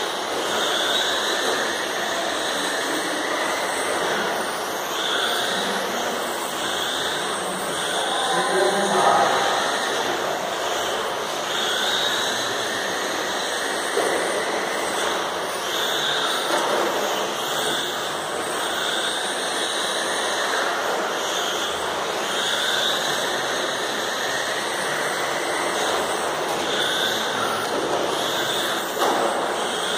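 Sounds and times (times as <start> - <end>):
electric toy car motor whine: 0.0 - 29.9.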